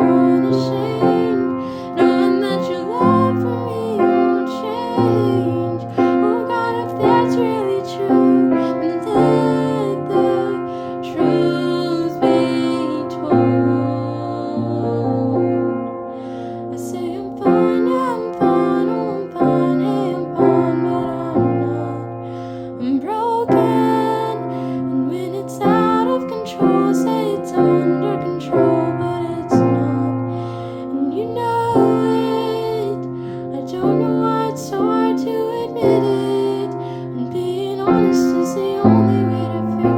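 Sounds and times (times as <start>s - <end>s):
woman singing with vibrato: 0.0s - 15.8s, 16.4s - 39.9s
piano playing slow chords: 0.0s - 39.9s.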